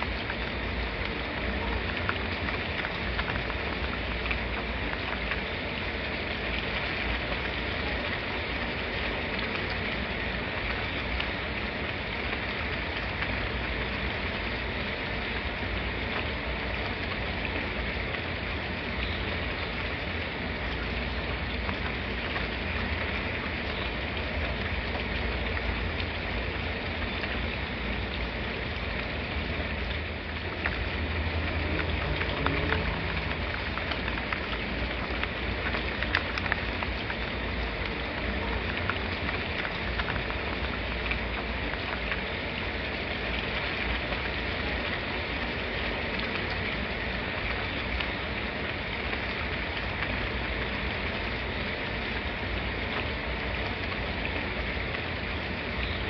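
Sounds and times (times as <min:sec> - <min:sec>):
faint scattered drips: 0:00.0 - 0:56.0
steady rain hiss: 0:00.0 - 0:56.0.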